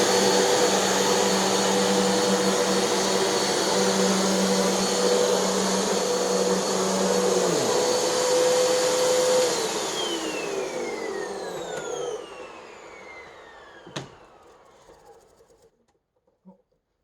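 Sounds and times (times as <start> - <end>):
vacuum motor spinning down: 0.0 - 15.6.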